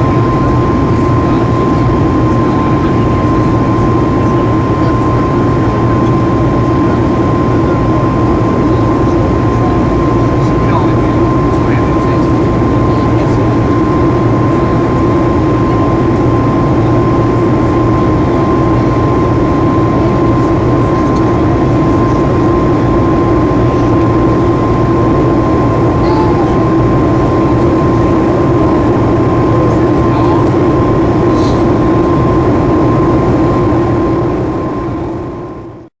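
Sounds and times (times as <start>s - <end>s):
jet engine and airflow roar: 0.0s - 35.9s
thin steady whine: 0.0s - 35.9s.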